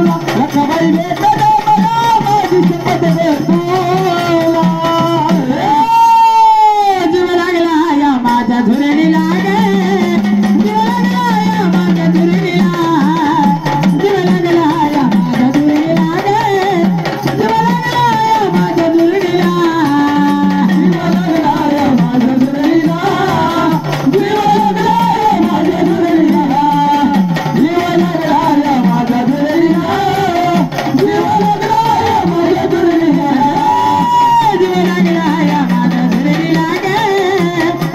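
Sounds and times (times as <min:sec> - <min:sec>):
drum accompaniment: 0:00.0 - 0:37.9
person singing folk song: 0:00.0 - 0:37.9.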